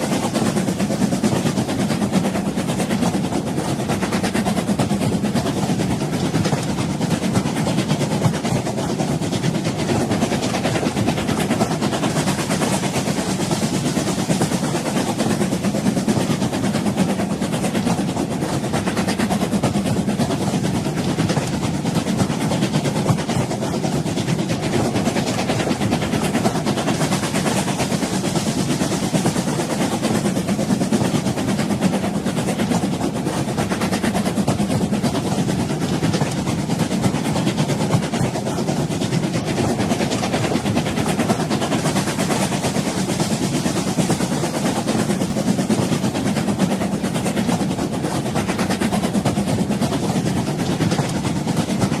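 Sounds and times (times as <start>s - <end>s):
train rumbling and rattling: 0.0s - 52.0s.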